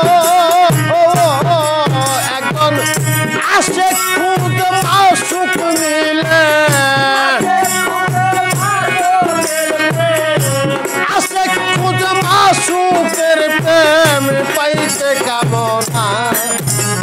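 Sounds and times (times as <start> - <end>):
drum beat: 0.0 - 17.0
harmonium: 0.0 - 17.0.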